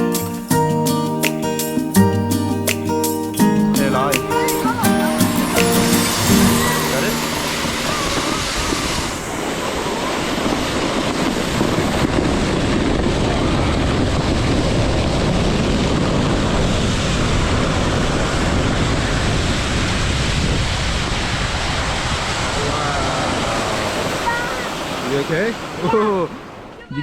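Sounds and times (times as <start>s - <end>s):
wind buffeting microphone: 3.4s - 27.0s.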